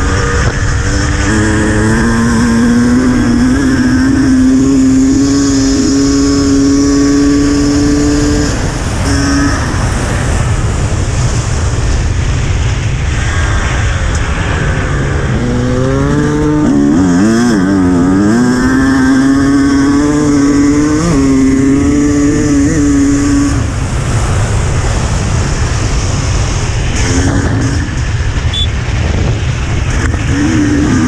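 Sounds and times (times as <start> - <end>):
dirt bike engine at speed: 0.0 - 31.0
wind buffeting microphone: 0.0 - 31.0.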